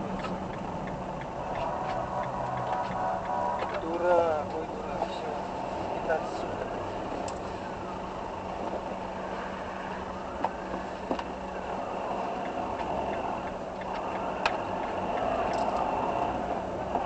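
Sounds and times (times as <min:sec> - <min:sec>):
car running with road noise: 0:00.0 - 0:17.0.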